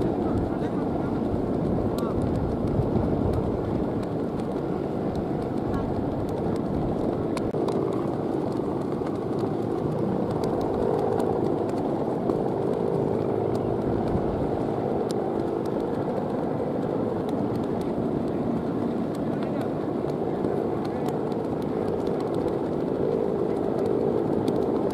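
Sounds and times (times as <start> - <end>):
kite hummer droning in wind: 0.0 - 24.9.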